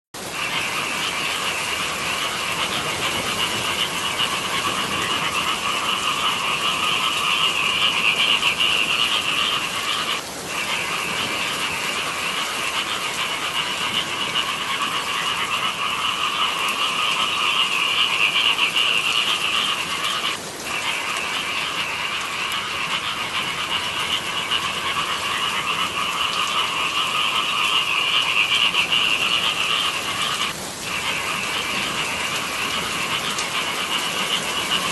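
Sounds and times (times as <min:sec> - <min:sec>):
chorus of frogs calling: 0:00.2 - 0:34.9.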